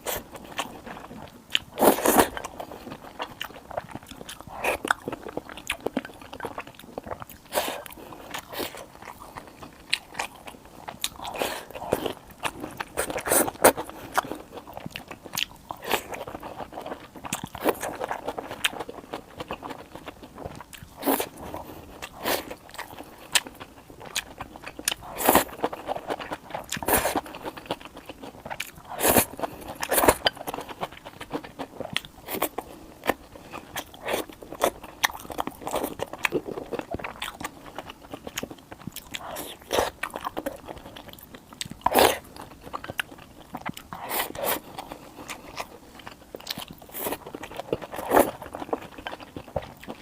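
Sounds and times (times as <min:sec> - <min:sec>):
crunchy food chewing: 0:00.0 - 0:50.0.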